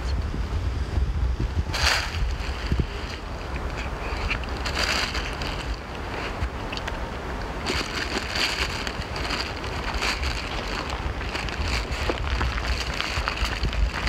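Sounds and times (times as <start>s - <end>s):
wind buffeting microphone: 0.0s - 14.0s
hissing rustle: 1.4s - 14.0s.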